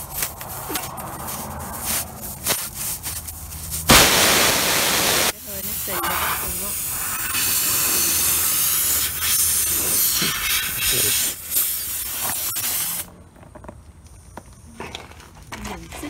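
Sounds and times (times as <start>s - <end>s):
air hissing from tyre: 0.0s - 13.1s.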